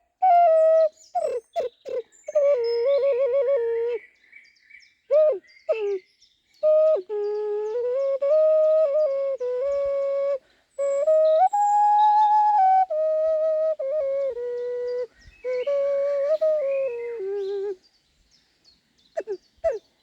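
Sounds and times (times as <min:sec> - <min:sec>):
ocarina melody: 0:00.0 - 0:04.1, 0:05.1 - 0:06.0, 0:06.6 - 0:17.8, 0:19.2 - 0:19.8.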